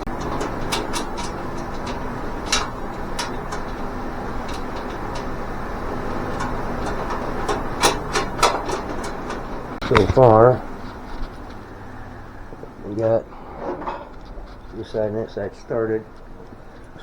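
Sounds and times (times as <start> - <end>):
metal parts clicking and clinking: 0.0 - 11.6, 12.9 - 17.0
low background noise: 0.0 - 17.0.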